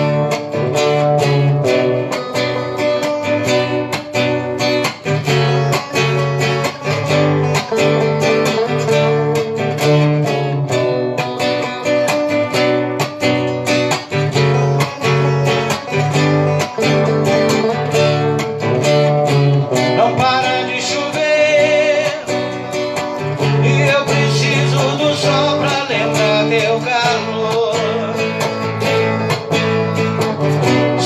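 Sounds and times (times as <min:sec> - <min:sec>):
strummed guitar chords: 0:00.0 - 0:31.0.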